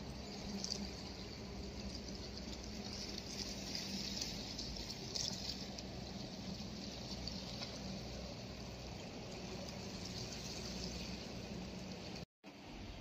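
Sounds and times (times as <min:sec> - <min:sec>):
seawater lapping against rocks: 0:00.0 - 0:12.2
low steady hum: 0:00.0 - 0:13.0.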